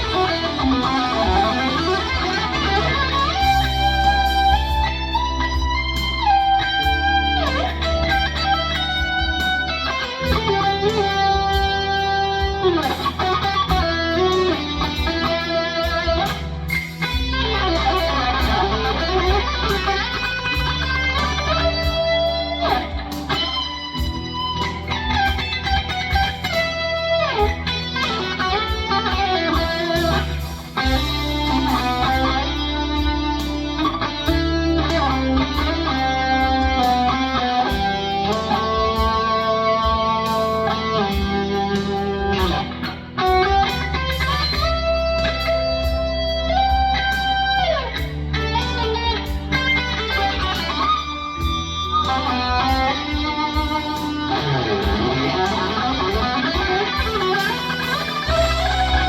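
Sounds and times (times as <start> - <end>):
distorted electric guitar lead: 0.0 - 59.0
low backing part: 0.0 - 59.0.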